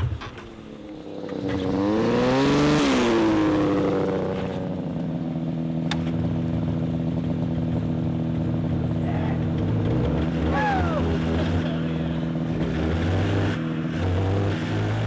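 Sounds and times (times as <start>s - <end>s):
snowmobile engine revving and idling: 0.0s - 15.0s.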